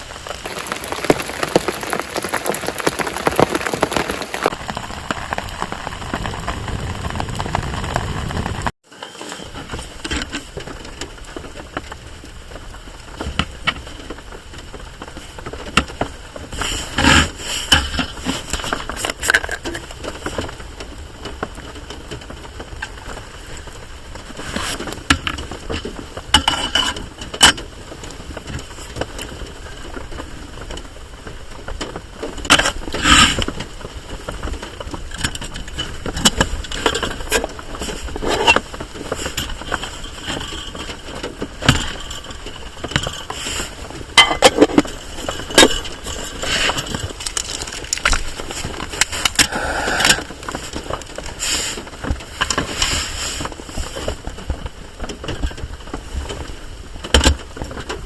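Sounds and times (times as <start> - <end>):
rain on a tarp: 0.0 - 58.0.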